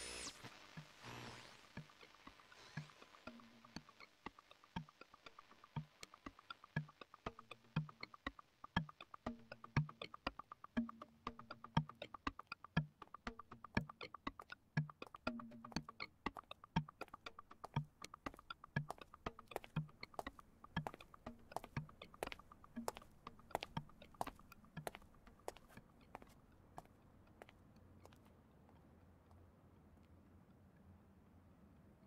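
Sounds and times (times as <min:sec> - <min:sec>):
fast clicking ticks: 0:00.2 - 0:26.4.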